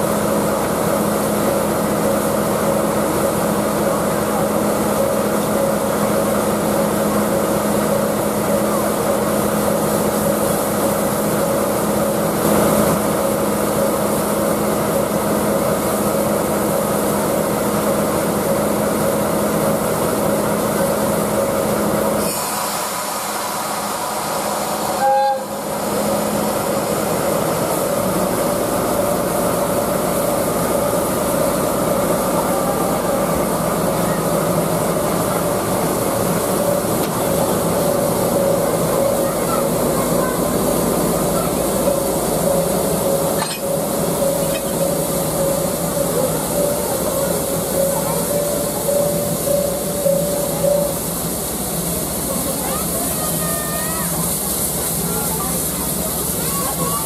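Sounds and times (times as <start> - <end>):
locomotive mechanical hum and hiss: 0.0 - 57.0.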